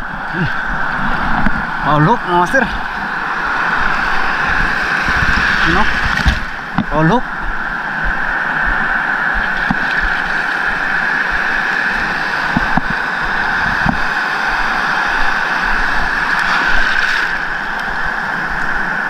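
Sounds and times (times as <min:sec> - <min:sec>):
sea surf: 0:00.0 - 0:19.0
wind on microphone: 0:00.0 - 0:19.0.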